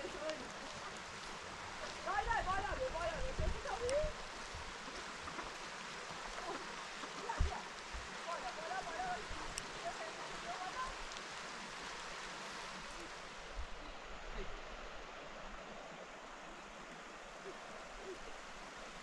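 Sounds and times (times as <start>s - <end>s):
rushing water-like hiss: 0.0s - 19.0s.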